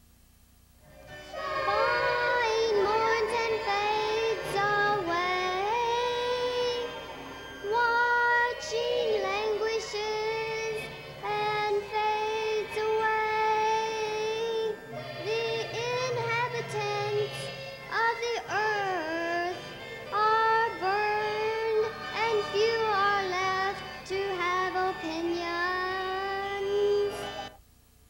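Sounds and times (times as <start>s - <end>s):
high voice singing long notes: 1.1s - 27.5s.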